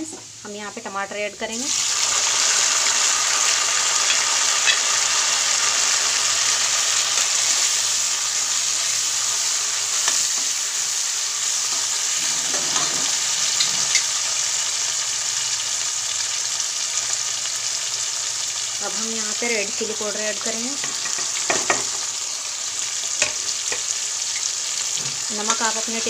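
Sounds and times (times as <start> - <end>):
tomatoes sizzling in oil: 0.0 - 26.0.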